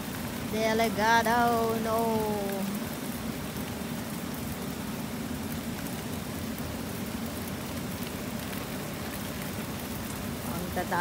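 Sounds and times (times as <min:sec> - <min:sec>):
sprinkler spraying water: 0:00.0 - 0:11.0.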